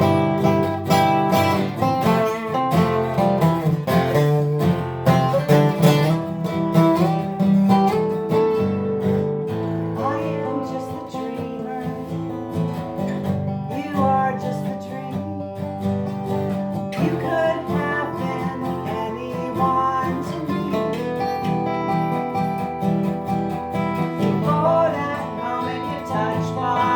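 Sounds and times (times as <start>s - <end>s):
acoustic guitar strumming: 0.0s - 26.9s.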